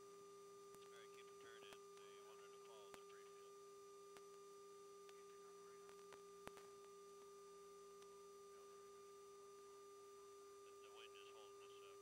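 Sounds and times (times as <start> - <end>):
faint steady electronic tone: 0.0 - 12.0.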